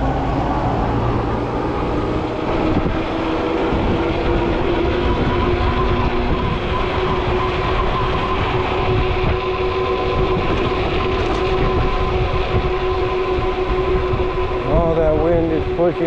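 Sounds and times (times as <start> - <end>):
electric motor whine: 0.0 - 16.0
wind buffeting microphone: 0.0 - 16.0.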